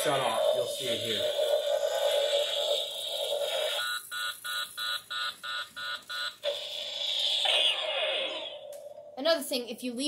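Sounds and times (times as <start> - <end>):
electronic toy firing sound: 0.0 - 9.0.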